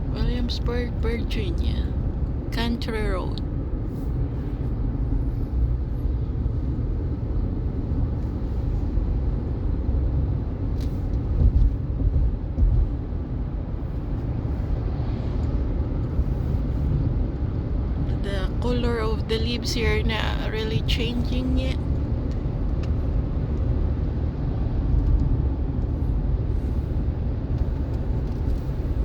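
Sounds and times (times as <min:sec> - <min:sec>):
car road noise rumble: 0:00.0 - 0:29.0.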